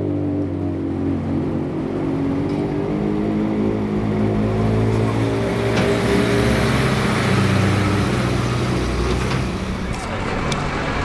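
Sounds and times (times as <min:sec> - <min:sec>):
road and tyre noise: 0:00.0 - 0:11.0
truck engine running: 0:00.0 - 0:11.0.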